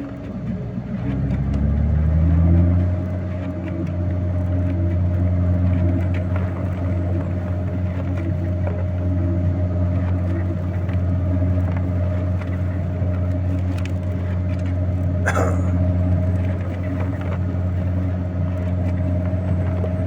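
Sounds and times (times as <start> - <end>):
vehicle engine droning: 0.4 - 20.0.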